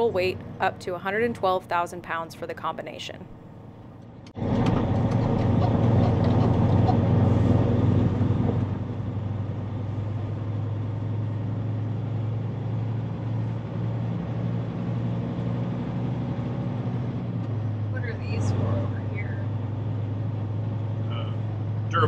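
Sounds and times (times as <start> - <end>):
diesel truck engine droning: 0.0 - 2.8, 3.4 - 22.0.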